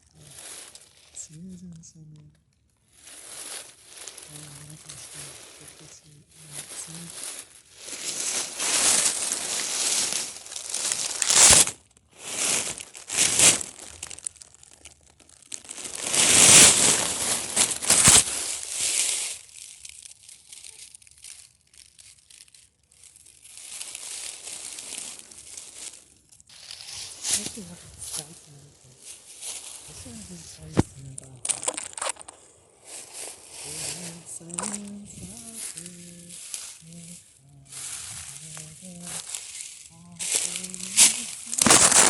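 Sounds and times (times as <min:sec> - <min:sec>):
rustling crinkling noise: 0:00.0 - 0:42.0
sharp crackles: 0:00.0 - 0:42.0.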